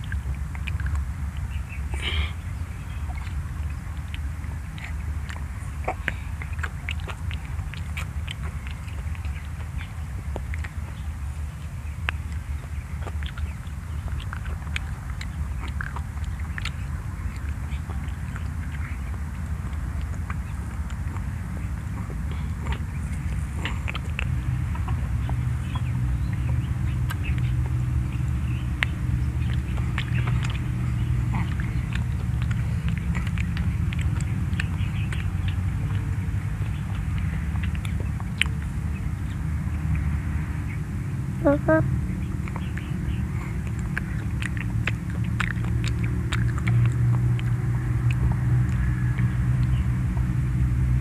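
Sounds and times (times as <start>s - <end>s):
mouth smacks and clicks: 0.0s - 40.1s, 41.3s - 51.0s
children chewing: 0.0s - 51.0s
steady low hum: 0.0s - 51.0s.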